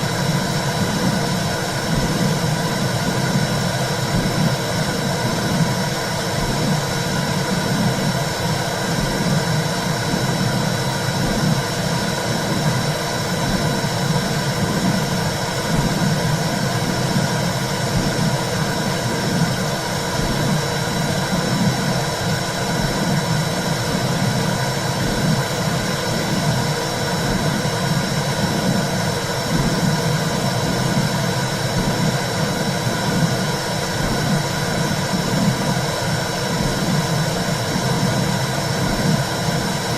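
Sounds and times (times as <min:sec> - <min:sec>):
low pulsing whooshing rush: 0:00.0 - 0:39.9.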